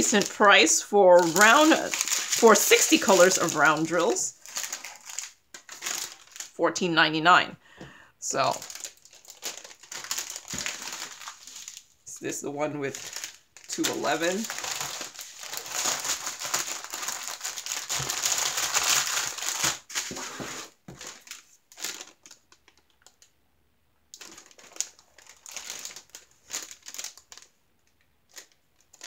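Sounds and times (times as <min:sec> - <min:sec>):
plastic bags crinkling: 0:00.0 - 0:06.6, 0:08.3 - 0:23.3, 0:24.1 - 0:27.6, 0:28.3 - 0:29.0.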